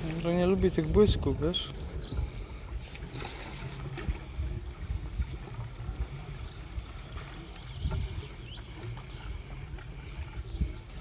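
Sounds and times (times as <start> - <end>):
water trickling and lapping: 0.0 - 11.0.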